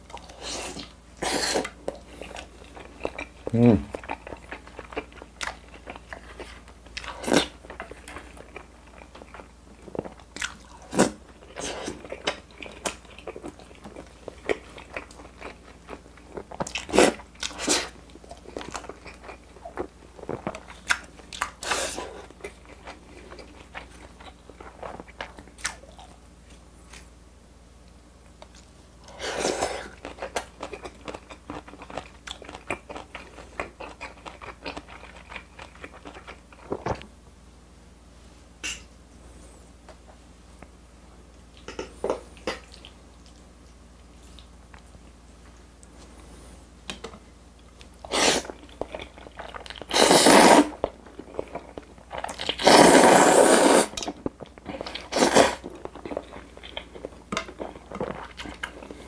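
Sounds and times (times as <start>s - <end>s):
chewing food with crunches: 0.0s - 27.2s, 27.8s - 37.2s, 40.0s - 59.0s.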